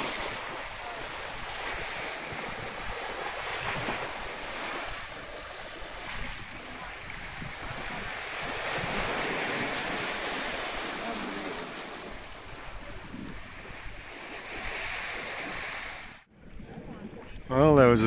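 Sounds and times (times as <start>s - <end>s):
wind on microphone: 0.0s - 17.5s
water rushing and splashing: 0.0s - 18.0s.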